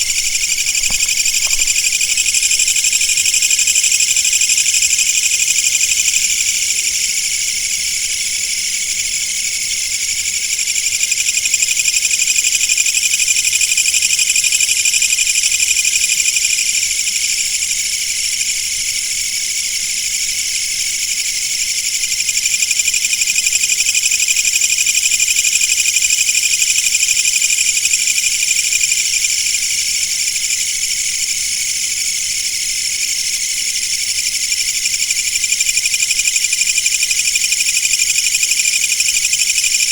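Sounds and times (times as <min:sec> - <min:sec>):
insects buzzing drone: 0:00.0 - 0:16.9, 0:21.0 - 0:39.9.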